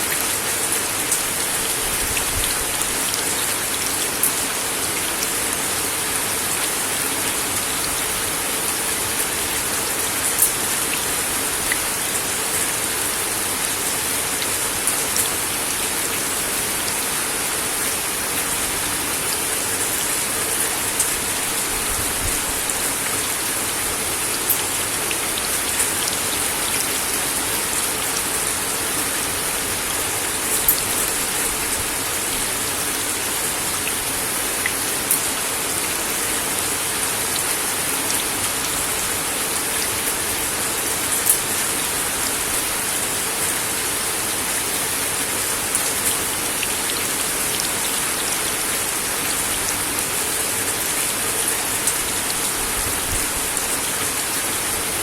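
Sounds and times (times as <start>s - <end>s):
rain on wooden deck: 0.0s - 55.0s.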